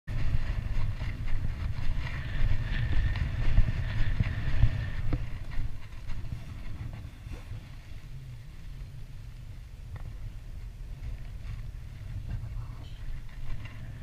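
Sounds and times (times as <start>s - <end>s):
wind buffeting a microphone: 0.1s - 14.0s.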